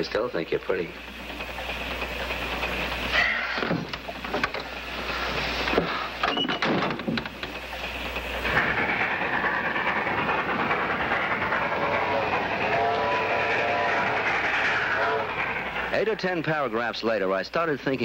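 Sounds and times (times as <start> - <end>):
train running on rails: 0.0 - 18.0.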